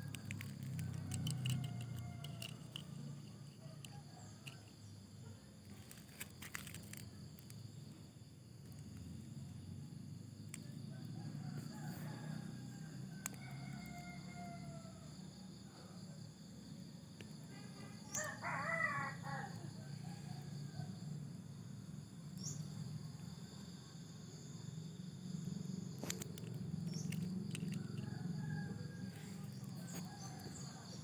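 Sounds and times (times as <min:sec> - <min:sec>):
constant high hiss: 0:00.0 - 0:31.0.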